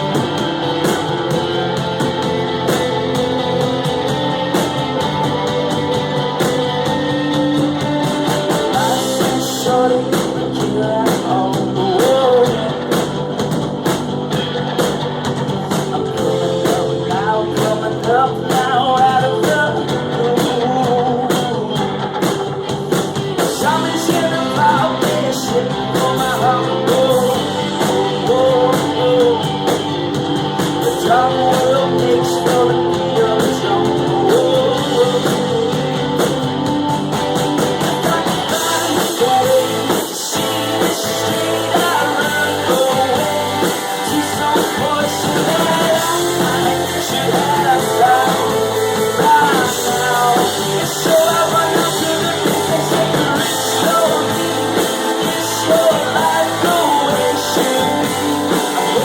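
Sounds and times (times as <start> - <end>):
live rock band: 0.0 - 59.0
person singing: 1.0 - 13.2, 15.7 - 22.1, 23.3 - 36.8, 37.7 - 59.0.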